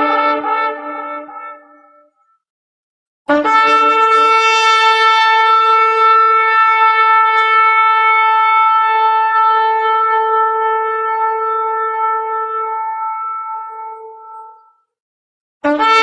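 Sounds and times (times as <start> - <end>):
shofar blast: 0.0 - 1.9, 3.3 - 14.4, 15.6 - 16.0.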